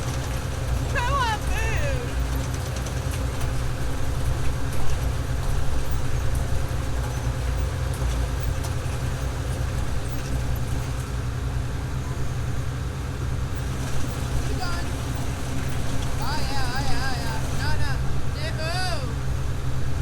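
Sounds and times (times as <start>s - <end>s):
farm machinery engine droning: 0.0s - 20.0s.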